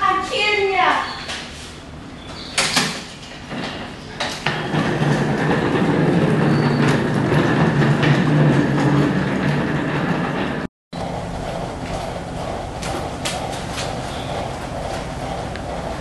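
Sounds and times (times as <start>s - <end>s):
suitcase wheels rolling on tiles: 3.1s - 16.0s.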